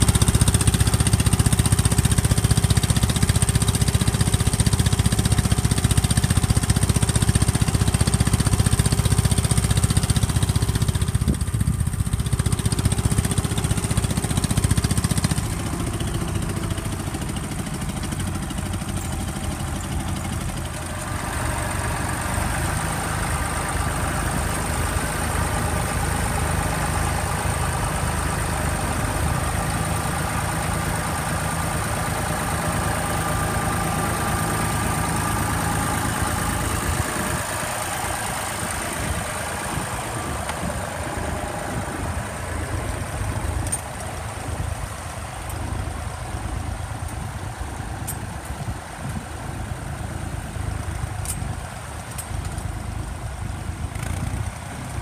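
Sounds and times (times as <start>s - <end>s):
tractor engines running: 0.0s - 55.0s.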